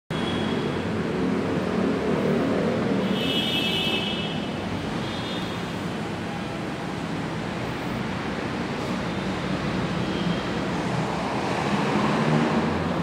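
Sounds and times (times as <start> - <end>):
road traffic rumble: 0.1 - 13.0.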